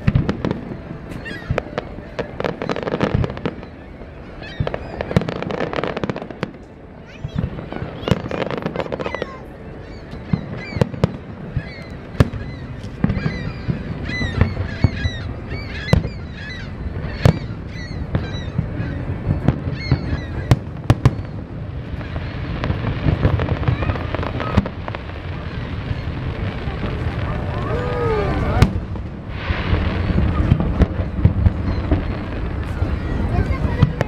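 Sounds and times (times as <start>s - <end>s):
crackling hiss: 0.0s - 34.0s.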